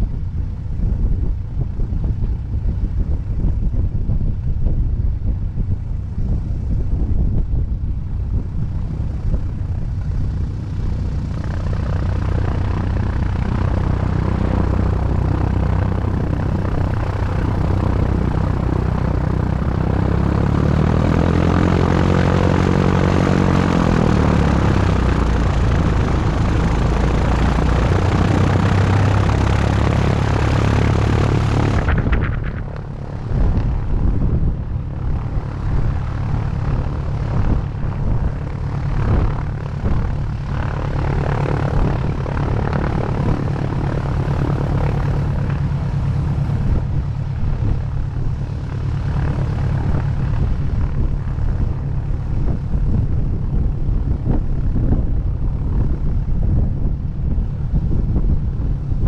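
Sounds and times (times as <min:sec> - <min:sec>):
low rumble: 0:00.0 - 0:59.0
propeller plane engine drone: 0:00.0 - 0:59.0.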